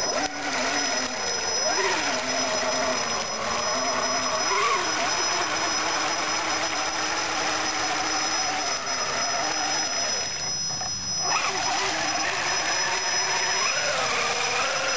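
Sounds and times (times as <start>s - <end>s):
toy truck electric motor whining: 0.0s - 14.9s.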